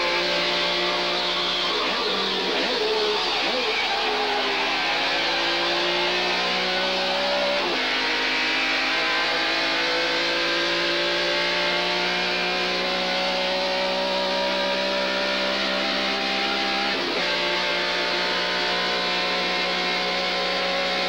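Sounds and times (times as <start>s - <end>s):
droning electric guitar chords: 0.0s - 21.0s.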